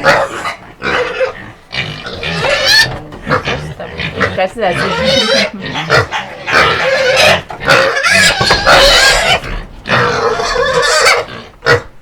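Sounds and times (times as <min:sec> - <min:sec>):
pigs squealing and grunting: 0:00.0 - 0:12.0.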